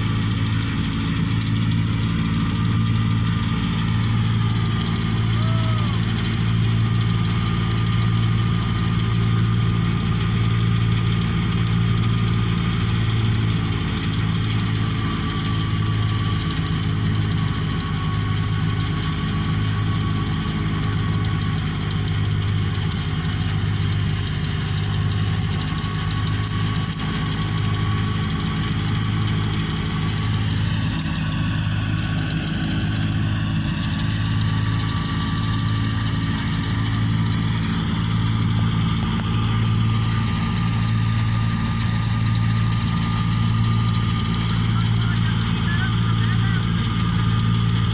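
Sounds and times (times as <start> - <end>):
farm machinery engine throbbing: 0.0 - 47.9.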